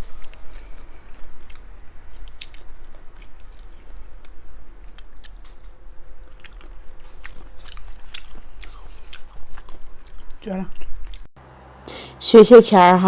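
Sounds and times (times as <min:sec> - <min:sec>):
low steady hum: 0:00.0 - 0:13.0
person chewing wetly: 0:00.1 - 0:11.3.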